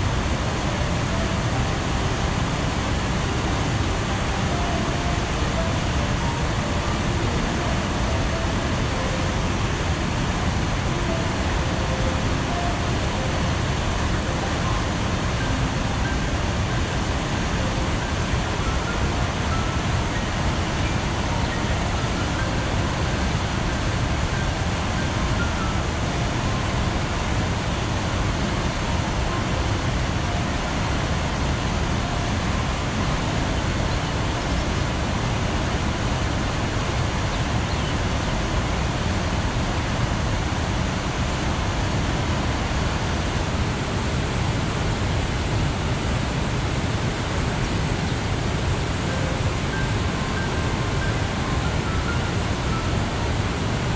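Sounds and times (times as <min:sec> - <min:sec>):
waterfall roaring over rocks: 0:00.0 - 0:53.9.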